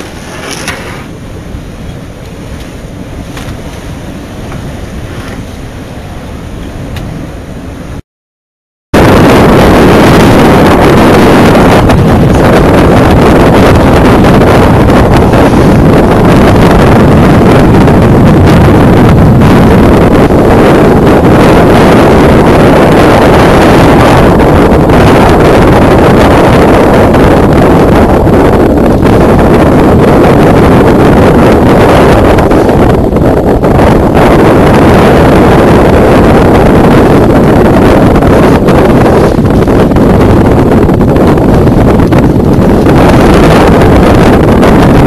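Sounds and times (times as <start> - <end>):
strong wind on microphone: 0.0 - 8.0, 8.9 - 45.0.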